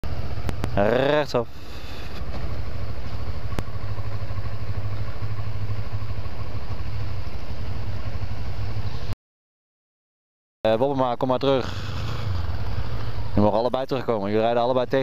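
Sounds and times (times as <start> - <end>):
motorcycle engine droning: 0.0 - 9.1, 11.2 - 15.0
road and wind noise: 0.0 - 9.2, 10.8 - 15.0.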